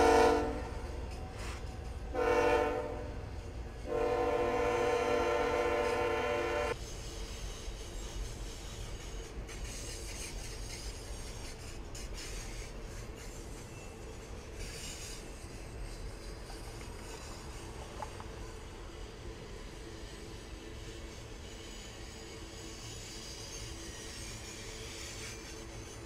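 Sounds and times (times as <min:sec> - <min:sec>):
freight train rumbling past: 0:00.0 - 0:26.0
train wheels scraping hiss: 0:00.0 - 0:26.0.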